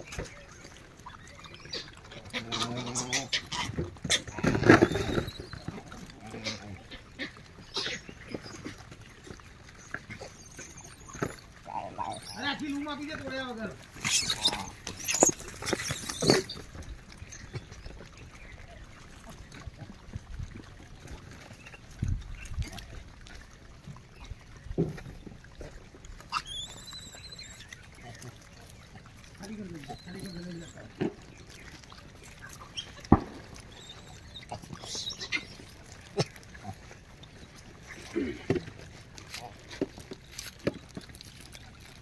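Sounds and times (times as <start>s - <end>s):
monkeys foraging on dry ground: 0.0s - 42.0s.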